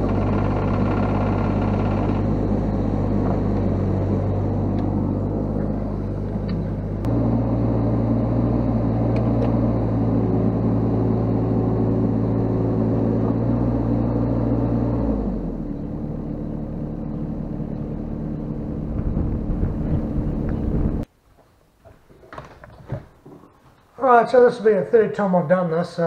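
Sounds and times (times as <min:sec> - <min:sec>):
excavator diesel engine under load: 0:00.0 - 0:21.1.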